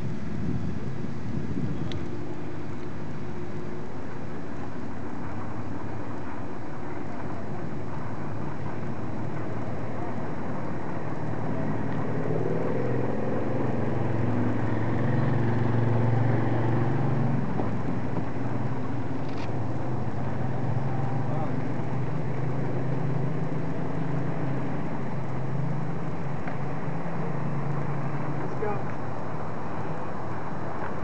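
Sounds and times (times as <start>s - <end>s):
vehicle engine hum: 0.0s - 31.0s.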